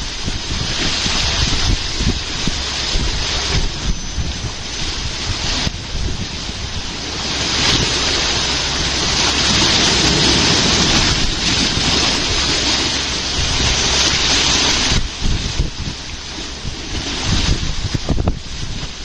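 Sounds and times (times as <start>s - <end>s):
churning water: 0.0s - 19.0s
wind gusting on microphone: 0.0s - 19.0s.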